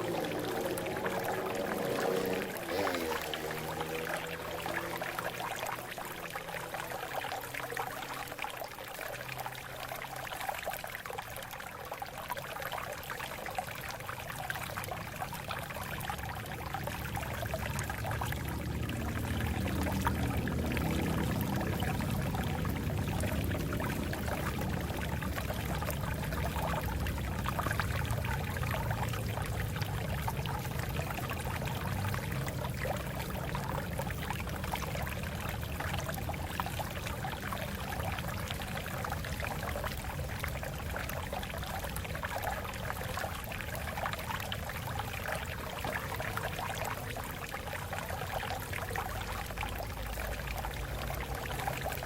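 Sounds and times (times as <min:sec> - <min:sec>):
water flowing over rocks: 0:00.0 - 0:52.0.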